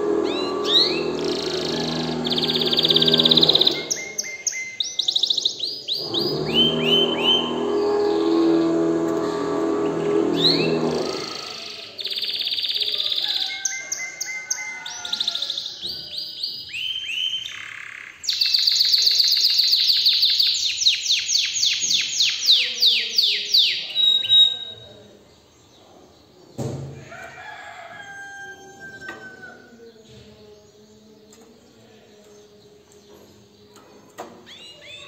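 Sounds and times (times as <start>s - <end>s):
canary singing: 0.0s - 25.6s, 27.2s - 35.0s.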